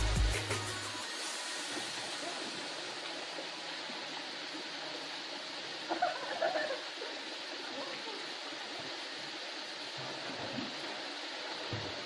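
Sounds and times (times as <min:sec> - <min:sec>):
small waterfall splashing: 0:00.7 - 0:12.0.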